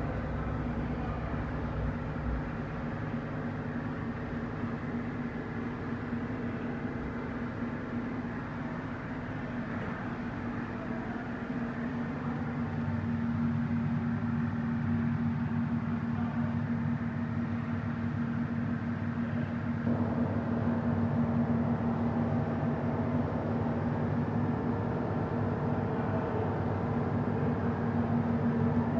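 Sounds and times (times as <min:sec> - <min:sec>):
mid-range noise: 0:00.0 - 0:28.9
steady mechanical hum: 0:00.0 - 0:28.9.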